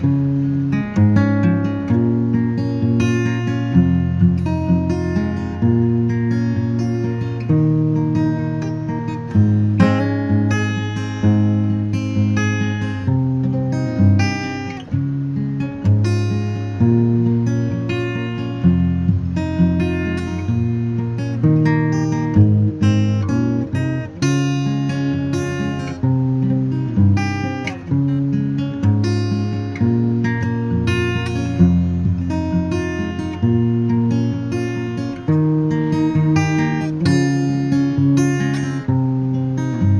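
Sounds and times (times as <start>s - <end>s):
acoustic guitar strummed and plucked: 0.0s - 39.9s.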